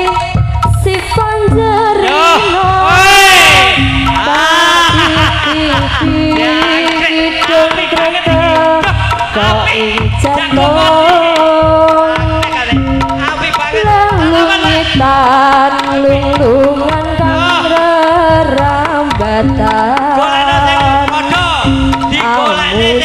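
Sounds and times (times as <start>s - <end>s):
hand drum pattern: 0.0s - 23.0s.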